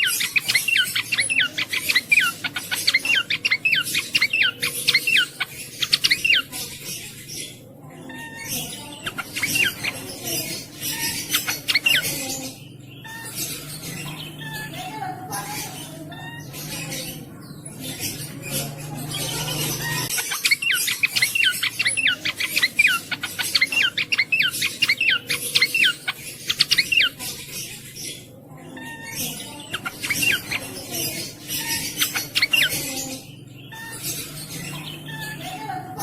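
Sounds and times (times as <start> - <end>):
bird singing chattering notes: 0.0 - 36.0.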